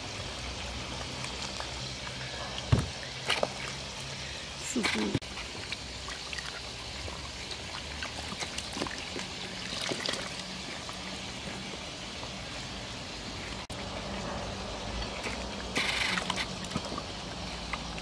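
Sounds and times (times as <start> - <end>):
trickle of running water: 0.0 - 18.0.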